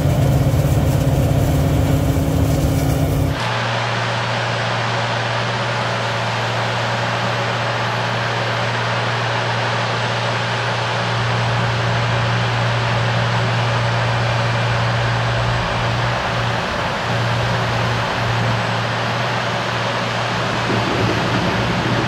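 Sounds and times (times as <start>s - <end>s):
harvester and tractor engine drone: 0.0s - 22.0s
low hum: 0.0s - 22.0s
rushing machinery noise: 0.0s - 22.0s.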